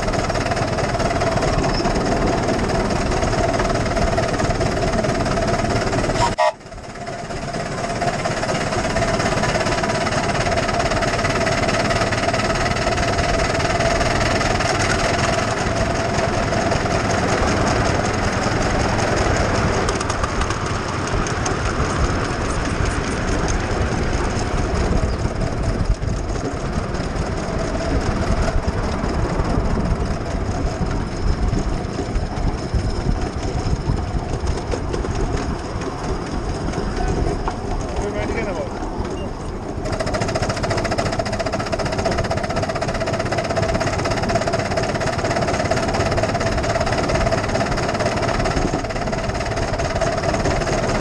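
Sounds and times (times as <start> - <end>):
fine regular ticking: 0.0 - 51.0
miniature steam locomotive running: 0.0 - 51.0
steady whine: 0.0 - 51.0.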